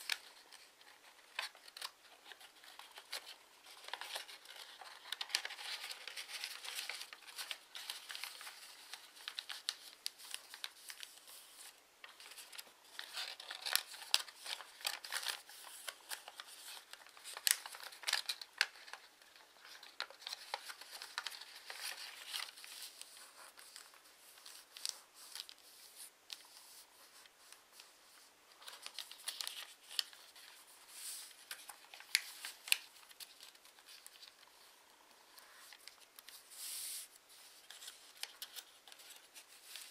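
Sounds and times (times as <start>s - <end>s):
paper crackling as folded: 0.0s - 39.9s
paper rustling and crinkling: 0.0s - 39.9s.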